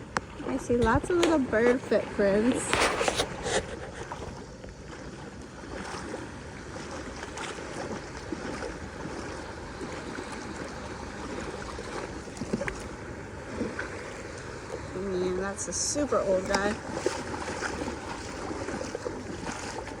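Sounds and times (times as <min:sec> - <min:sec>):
shallow seawater washing: 0:00.0 - 0:20.0
wind: 0:00.0 - 0:20.0.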